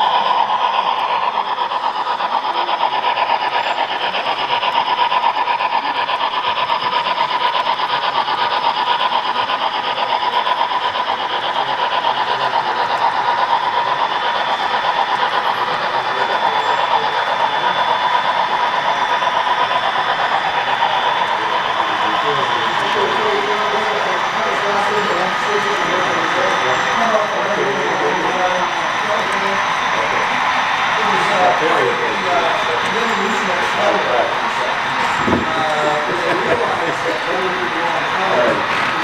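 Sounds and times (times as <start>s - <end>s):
model train whirring rattle: 0.0s - 39.0s.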